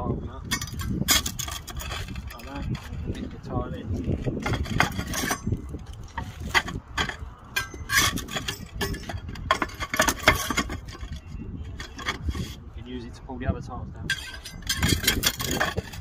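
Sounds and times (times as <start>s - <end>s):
wind rumbling on microphone: 0.0s - 16.0s
roof tiles clacking and scraping: 0.4s - 12.7s, 14.1s - 16.0s.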